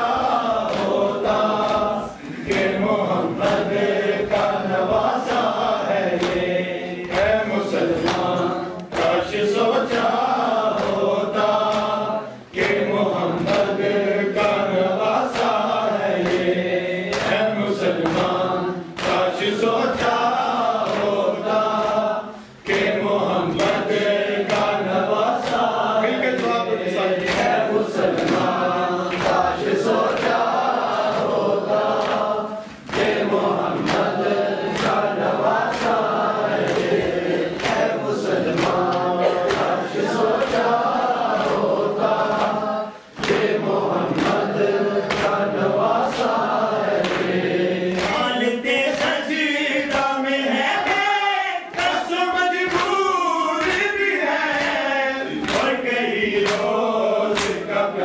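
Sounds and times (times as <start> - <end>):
hands slapping chests: 0.0 - 47.4, 55.4 - 55.8, 56.4 - 57.7
men chanting in unison: 0.0 - 58.0.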